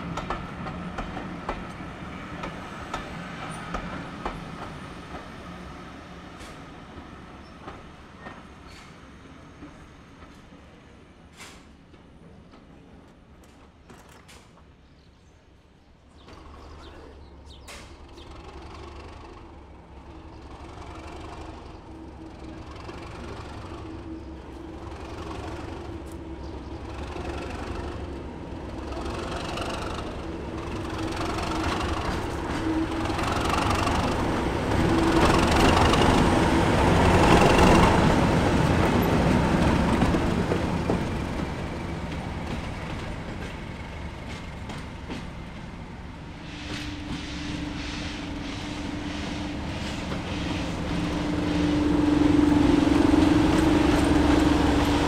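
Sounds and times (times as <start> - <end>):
diesel locomotive engine: 0.0 - 55.0.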